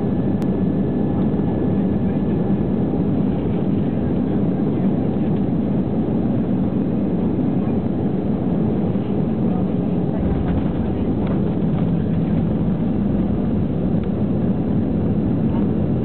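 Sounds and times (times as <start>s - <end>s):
airliner engine and airflow rumble: 0.0s - 16.0s.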